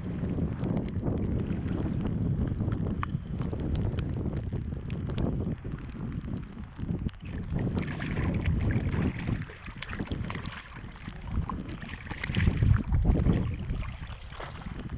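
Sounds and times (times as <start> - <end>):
water lapping at boat hull: 0.0 - 14.9
wind buffeting microphone: 0.0 - 14.9.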